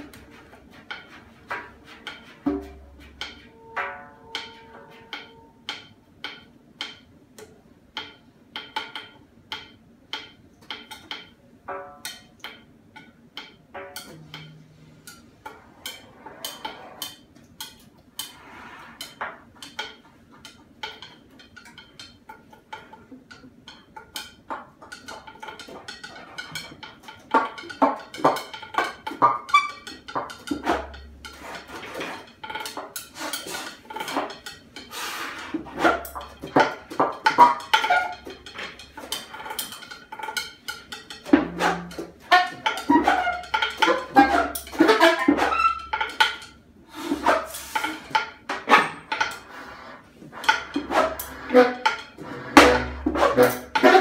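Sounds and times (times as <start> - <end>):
percussion clicks and rattles: 0.0 - 54.0.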